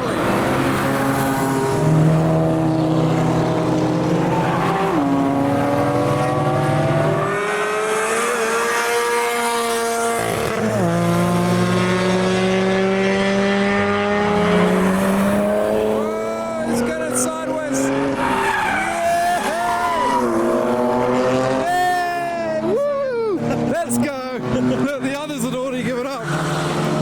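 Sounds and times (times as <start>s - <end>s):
race car engines accelerating: 0.0s - 27.0s.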